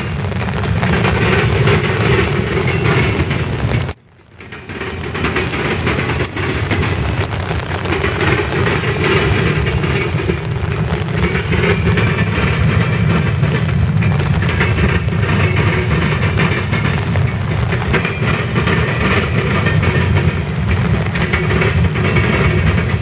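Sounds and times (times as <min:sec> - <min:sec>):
freight cars clattering on rails: 0:00.0 - 0:23.0.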